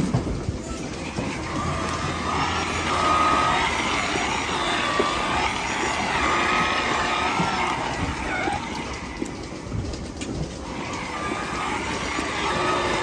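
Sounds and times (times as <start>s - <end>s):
milking machine drone with whine: 0.0s - 13.0s.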